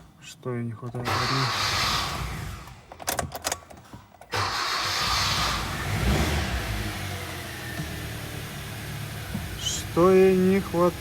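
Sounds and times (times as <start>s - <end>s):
car engine starting and idling: 0.8s - 11.0s.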